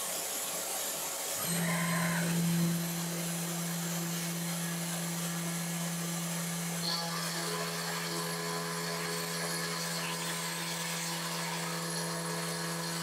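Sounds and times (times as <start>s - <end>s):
cnc router spindle humming: 0.1s - 13.0s.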